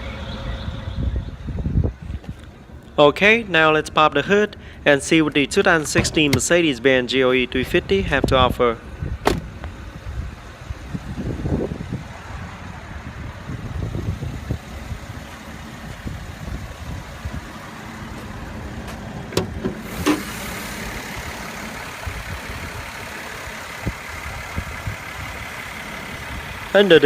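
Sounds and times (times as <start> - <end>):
car engine idling: 1.9 - 27.0.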